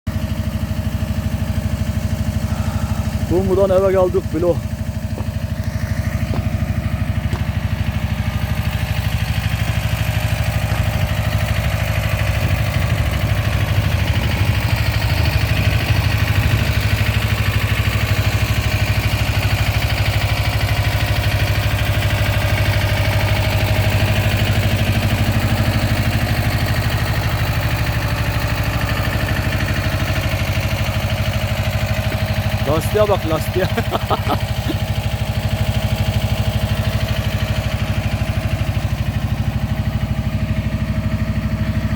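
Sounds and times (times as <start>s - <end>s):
vehicle engine idling: 0.1s - 41.9s.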